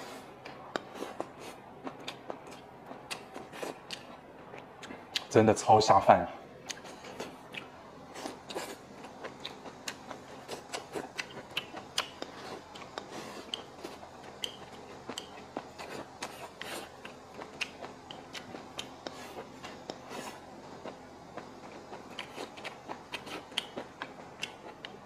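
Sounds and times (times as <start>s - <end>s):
crunchy chewing: 0.0s - 5.3s, 6.6s - 25.0s.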